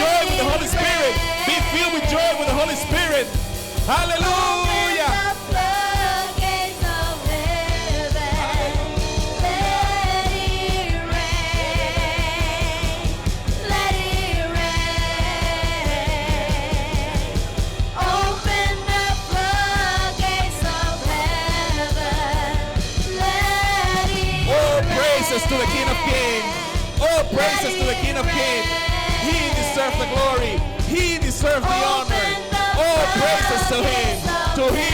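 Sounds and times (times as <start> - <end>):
voices singing: 0.0 - 34.9
worship band playing: 0.0 - 34.9.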